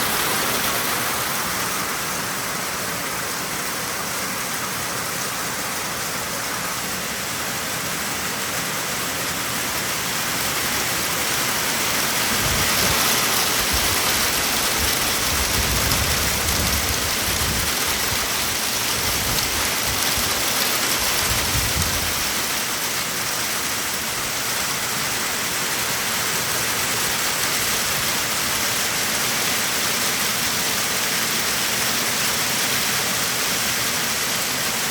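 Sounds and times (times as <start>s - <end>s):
heavy rain with hail: 0.0s - 34.9s.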